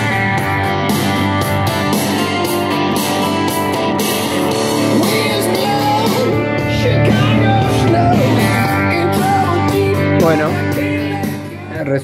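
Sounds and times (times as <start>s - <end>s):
rock music with electric guitar: 0.0s - 12.0s.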